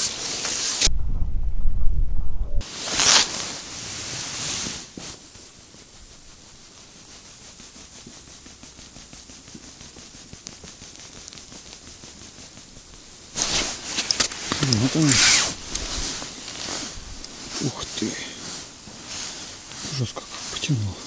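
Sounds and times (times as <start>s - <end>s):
steady hiss: 0.0s - 0.9s, 2.6s - 21.0s.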